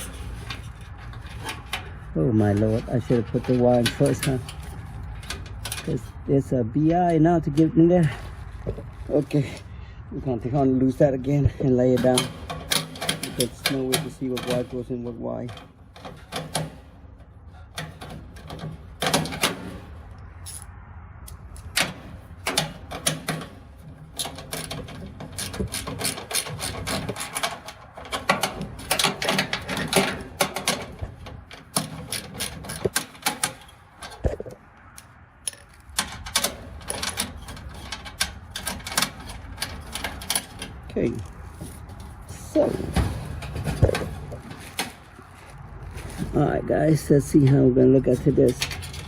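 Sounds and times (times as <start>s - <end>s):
metal parts clattering: 0.0s - 6.2s, 11.4s - 20.7s, 21.5s - 34.5s, 35.4s - 46.4s, 47.4s - 49.0s.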